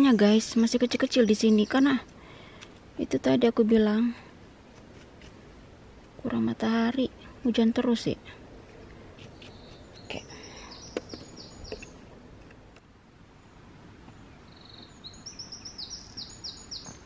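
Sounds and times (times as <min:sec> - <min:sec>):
songbird singing: 0:00.0 - 0:03.6, 0:06.0 - 0:17.0
faint background hiss: 0:00.0 - 0:17.0.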